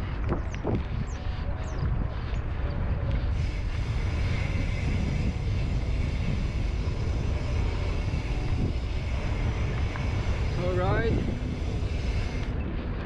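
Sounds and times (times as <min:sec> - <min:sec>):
mountain bike rolling on trail: 0:00.0 - 0:13.0
wind rumble on microphone: 0:00.0 - 0:13.0.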